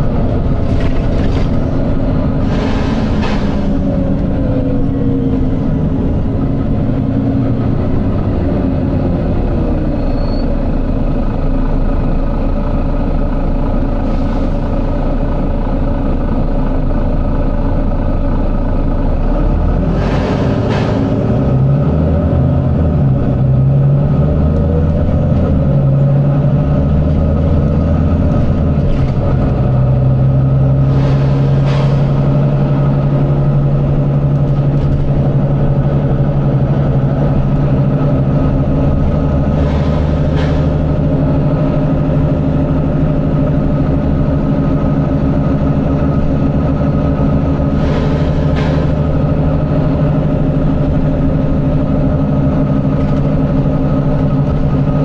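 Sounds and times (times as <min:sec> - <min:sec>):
bus diesel engine running hard: 0:00.0 - 0:55.0.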